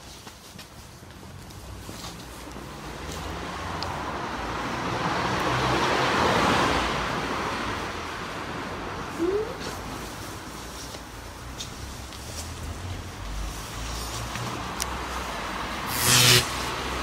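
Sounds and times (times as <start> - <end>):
car passing: 1.5 - 17.0.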